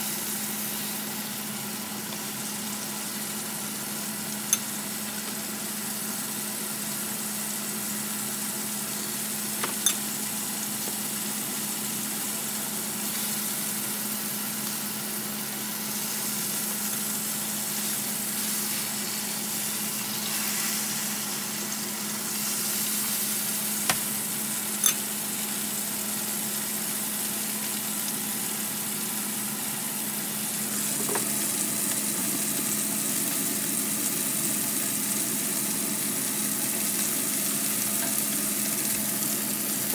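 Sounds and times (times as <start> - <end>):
steak sizzling in frying pan: 0.0 - 39.9.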